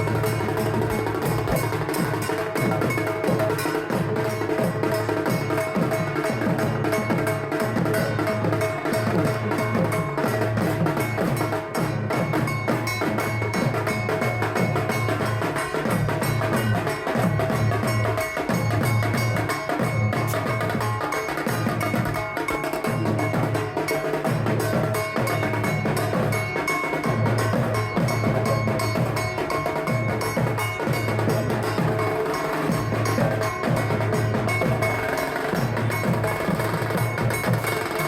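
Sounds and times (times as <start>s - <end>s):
drums played in a fast rhythm: 0.0s - 38.0s
steady ringing tone: 0.0s - 38.0s.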